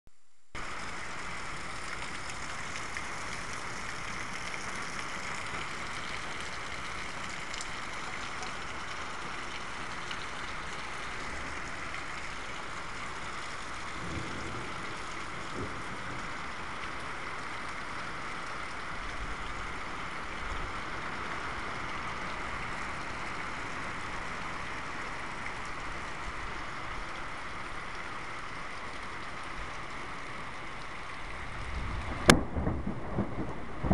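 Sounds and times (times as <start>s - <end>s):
steady rain: 0.1s - 33.9s.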